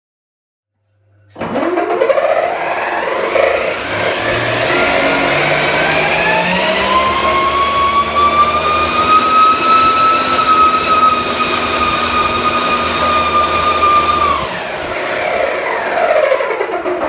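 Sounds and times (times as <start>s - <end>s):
electric ducted fan whine: 1.4s - 16.8s.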